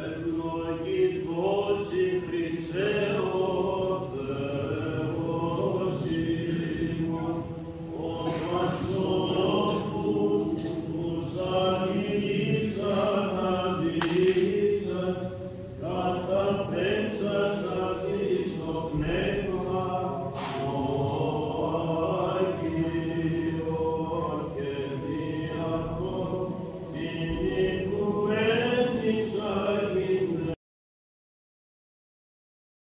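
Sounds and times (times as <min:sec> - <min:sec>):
men singing chant: 0:00.0 - 0:30.6.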